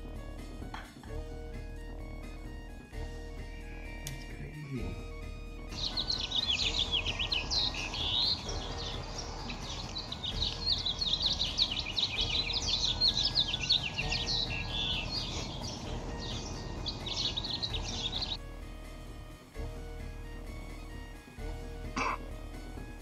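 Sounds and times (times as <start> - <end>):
small birds chirping: 0.0 - 18.5.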